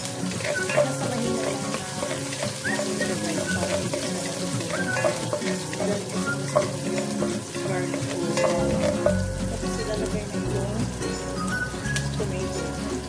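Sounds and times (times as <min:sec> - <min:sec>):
wooden spatula scraping and tapping: 0:00.0 - 0:10.5
background music: 0:00.0 - 0:13.0
onion sizzling in hot oil: 0:00.0 - 0:13.0.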